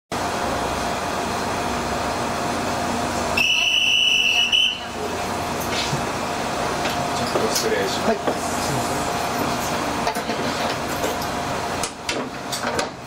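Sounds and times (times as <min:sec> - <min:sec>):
diesel railcar idling: 0:00.1 - 0:13.0.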